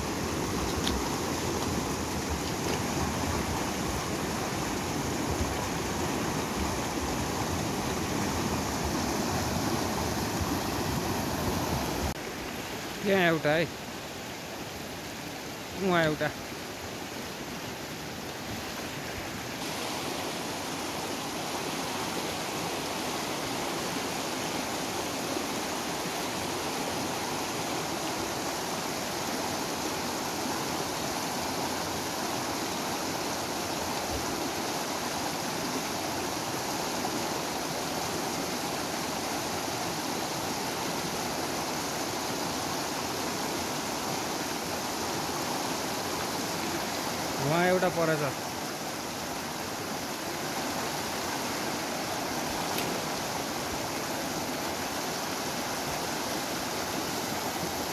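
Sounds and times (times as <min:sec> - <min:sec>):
river rushing over rocks: 0:00.0 - 0:57.9.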